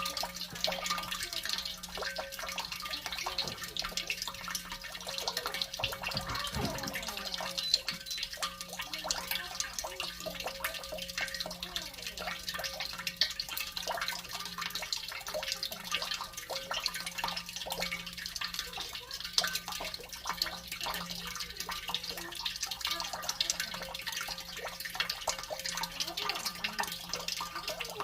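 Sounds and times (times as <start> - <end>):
tap water splashing in sink: 0.0 - 28.0.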